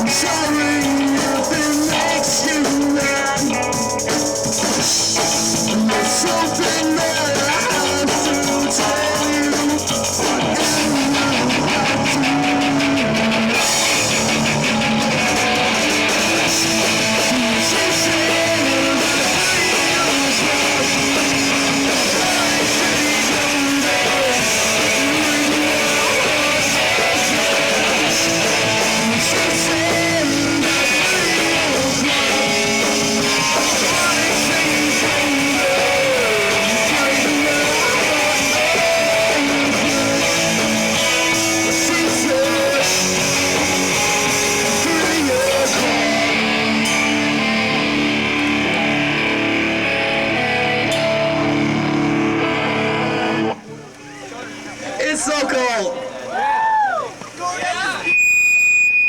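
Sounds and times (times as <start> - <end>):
rock band playing live: 0.0 - 53.8
electric guitar: 0.0 - 54.8.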